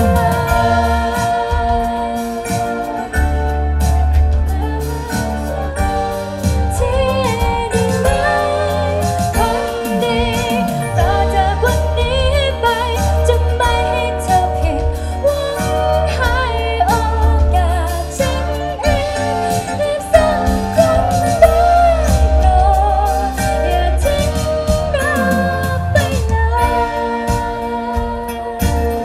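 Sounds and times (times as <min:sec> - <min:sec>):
live band music: 0:00.0 - 0:29.0.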